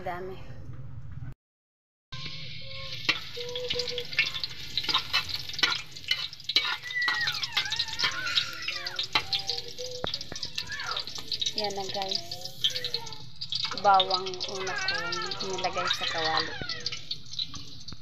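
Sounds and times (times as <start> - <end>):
spoon scraping metal wok: 2.2 - 17.9
garlic sizzling in hot oil: 2.2 - 18.0.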